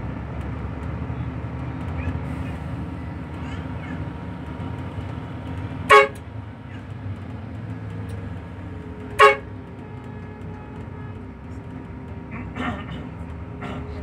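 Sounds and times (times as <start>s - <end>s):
bus engine rumble: 0.0s - 14.0s
road noise: 0.0s - 14.0s.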